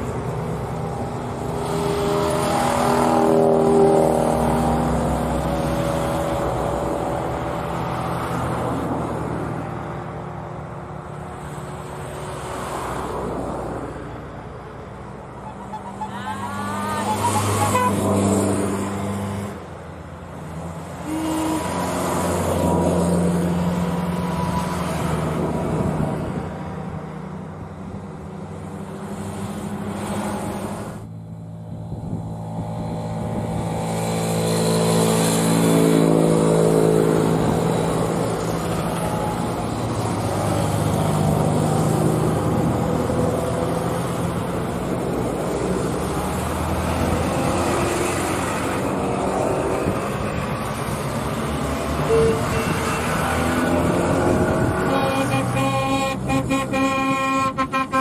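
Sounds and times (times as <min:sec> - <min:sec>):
car engines running: 0:00.0 - 0:58.0.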